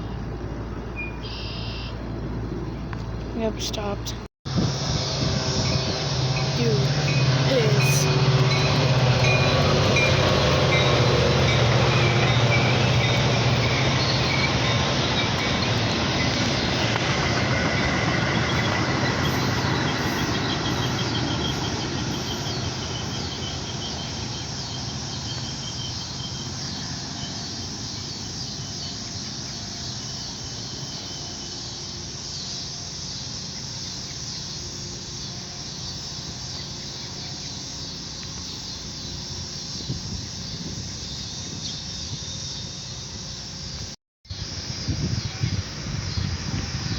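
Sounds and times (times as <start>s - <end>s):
locomotive engine drone: 0.0s - 46.9s
train wheel squeal: 0.9s - 2.0s, 4.7s - 43.8s.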